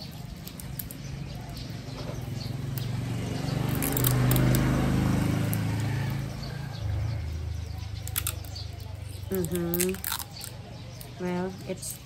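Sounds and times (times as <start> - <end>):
vehicle engine passing: 0.2 - 12.0.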